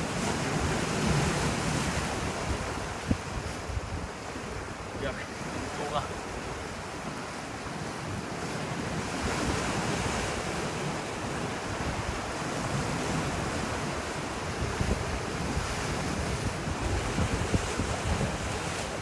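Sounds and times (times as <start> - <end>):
wind buffeting microphone: 0.0 - 6.9, 7.9 - 19.0
sea waves washing in: 0.0 - 19.0.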